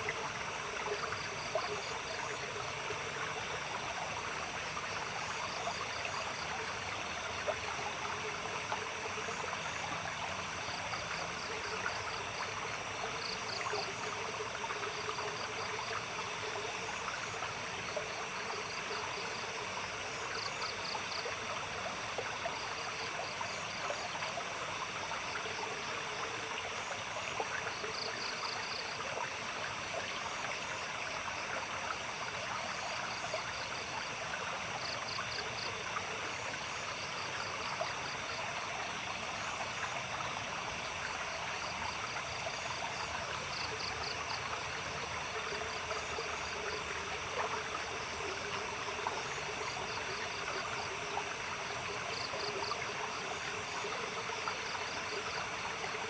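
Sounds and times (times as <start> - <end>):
insects chirping in trills: 0.0 - 56.0
stream water babbling: 0.0 - 56.0.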